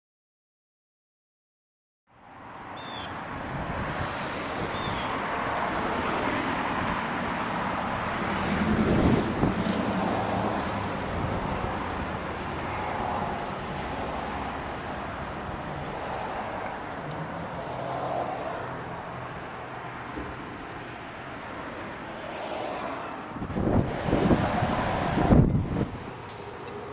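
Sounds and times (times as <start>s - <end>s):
highway traffic passing: 2.1s - 26.9s
vehicle passing loudly: 3.3s - 21.0s, 21.8s - 26.9s.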